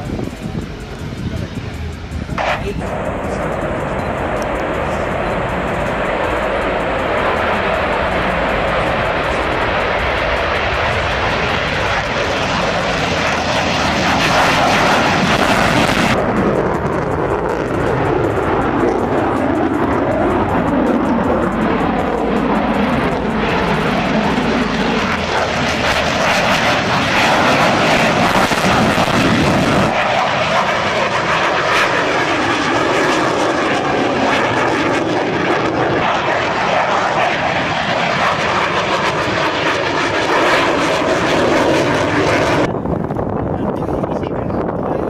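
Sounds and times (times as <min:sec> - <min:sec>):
jet aircraft engines running: 0:00.0 - 0:45.0.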